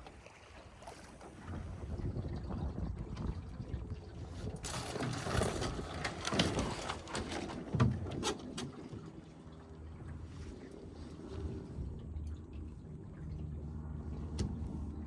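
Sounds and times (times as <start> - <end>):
water splashing against hull: 0.0 - 15.0
wind rumble on microphone: 0.8 - 15.0.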